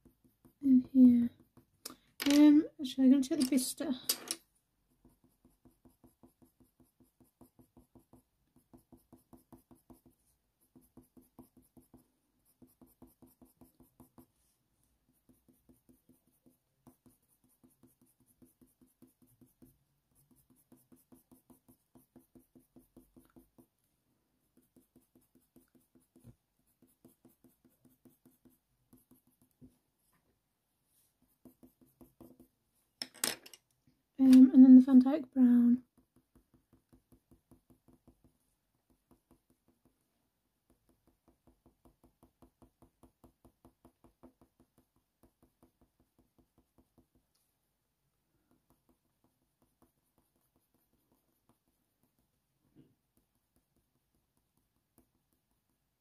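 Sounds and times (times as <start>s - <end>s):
pencil scratching on paper: 0.0s - 1.8s, 4.8s - 29.8s, 30.9s - 32.6s, 35.8s - 47.4s, 48.3s - 56.0s.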